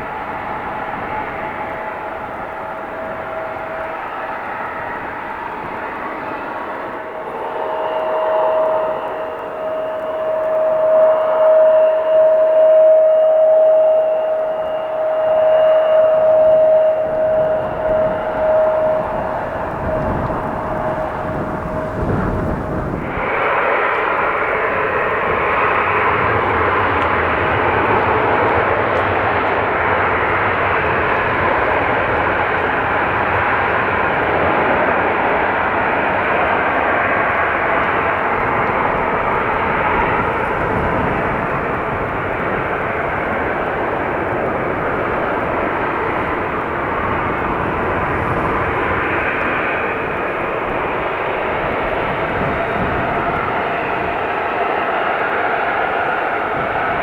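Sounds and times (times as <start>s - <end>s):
aircraft engine whine: 0.0s - 57.0s
loud aircraft engine noise: 0.0s - 57.0s
wind rumble on microphone: 0.0s - 57.0s.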